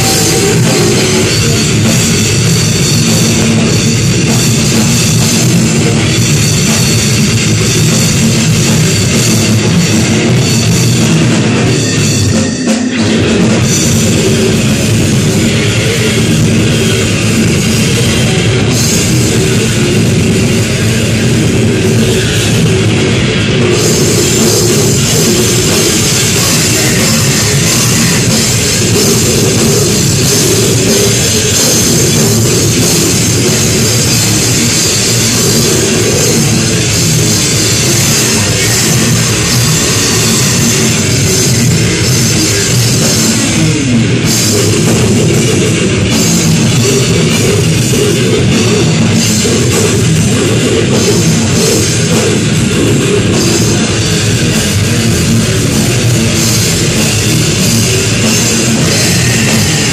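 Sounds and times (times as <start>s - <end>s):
heavy metal band playing: 0.0s - 59.9s.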